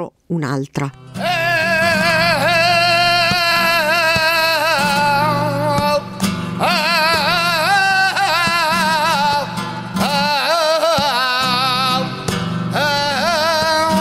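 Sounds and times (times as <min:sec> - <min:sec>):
acoustic flamenco guitar: 0:00.7 - 0:14.0
person singing flamenco lament: 0:00.9 - 0:14.0.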